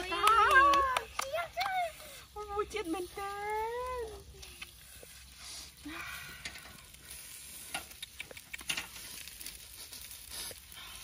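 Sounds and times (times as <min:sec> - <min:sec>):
sharp crackles: 0:00.0 - 0:11.0
skewers sizzling on a grill: 0:01.9 - 0:11.0.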